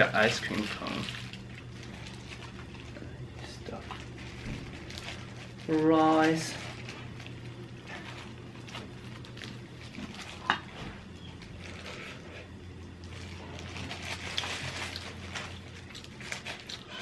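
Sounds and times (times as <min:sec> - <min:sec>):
handling rice and bean curd: 0:00.0 - 0:17.0
steady low hum: 0:00.0 - 0:17.0.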